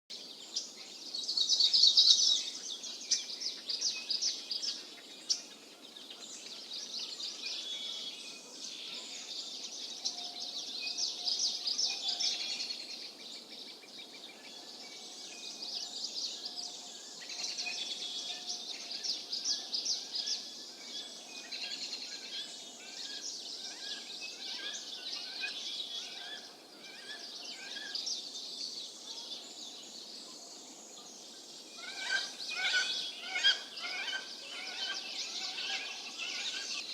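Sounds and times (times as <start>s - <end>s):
birds chirping and trilling: 0.1s - 36.9s.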